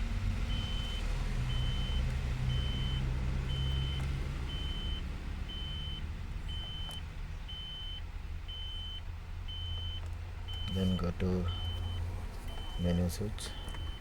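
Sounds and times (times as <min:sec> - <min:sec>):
low steady hum: 0:00.0 - 0:14.0
high-pitched warning beeps: 0:00.5 - 0:14.0.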